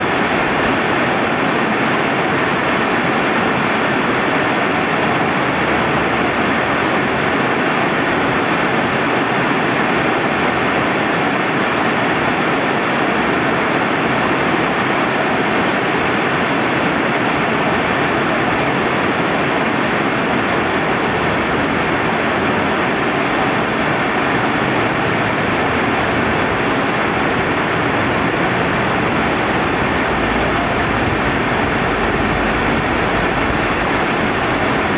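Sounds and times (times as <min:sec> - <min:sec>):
flowing river: 0:00.0 - 0:34.9
steady rain hiss: 0:00.0 - 0:34.9.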